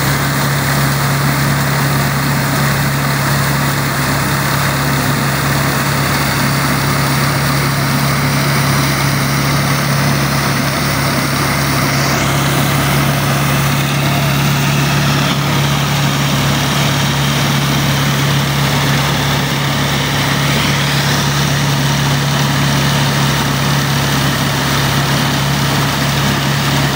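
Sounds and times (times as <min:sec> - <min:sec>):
sheller drum whirring rattle: 0:00.0 - 0:26.9
tractor engine running: 0:00.0 - 0:26.9.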